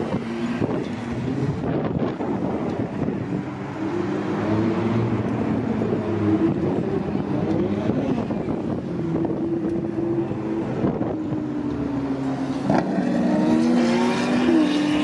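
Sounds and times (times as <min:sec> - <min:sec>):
sports car engines at low speed: 0:00.0 - 0:15.0.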